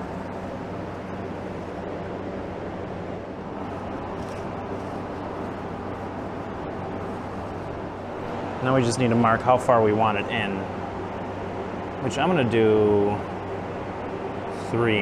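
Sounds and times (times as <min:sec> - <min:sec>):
low machine hum with rushing noise: 0:00.0 - 0:15.0.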